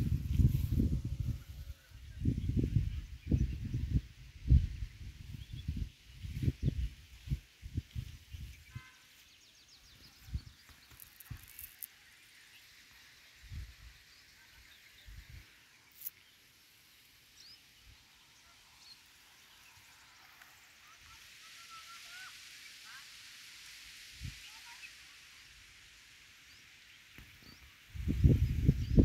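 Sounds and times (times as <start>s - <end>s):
faint outdoor field ambience: 0.0s - 29.0s
faint bird chirps: 1.2s - 29.0s.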